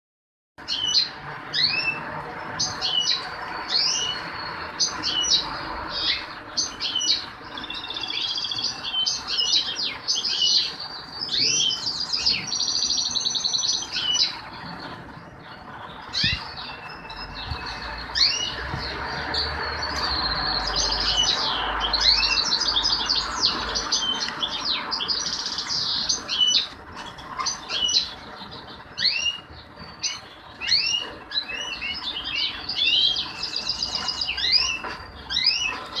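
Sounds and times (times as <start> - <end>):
finches twittering and trilling: 0.6 - 36.0.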